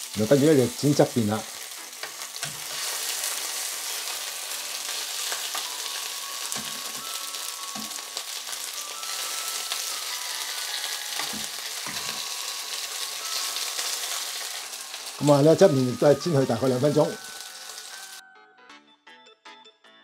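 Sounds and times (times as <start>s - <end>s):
fish sizzling in hot oil: 0.0s - 18.2s.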